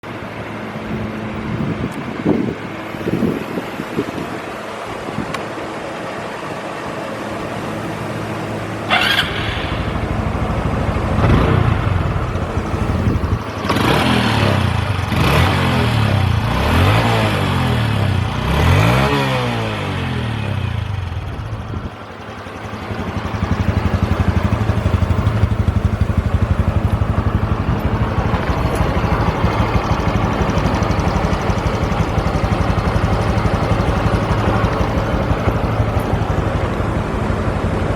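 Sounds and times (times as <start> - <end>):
motorcycle engine revving and idling: 4.0 - 37.9.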